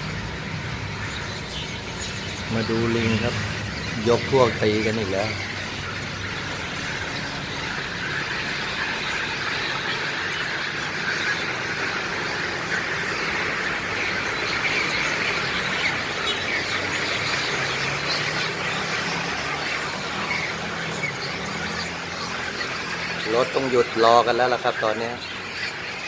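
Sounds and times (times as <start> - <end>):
monkeys squealing and screaming: 0.0 - 26.0.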